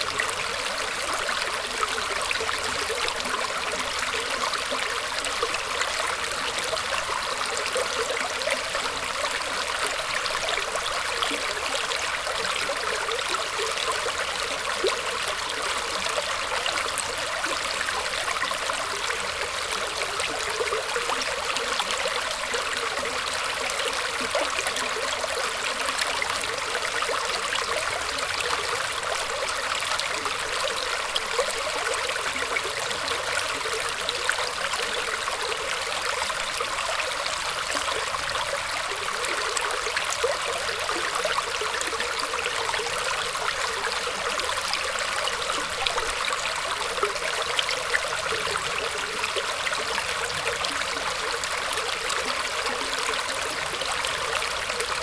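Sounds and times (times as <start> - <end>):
stream trickling and gurgling: 0.0 - 55.0.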